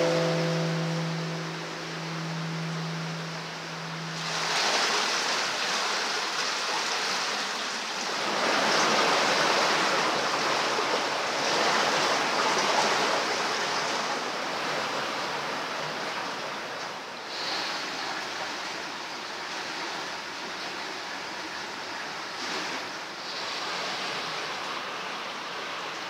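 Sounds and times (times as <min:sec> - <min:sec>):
water rushing in stone canal: 0:00.0 - 0:26.0.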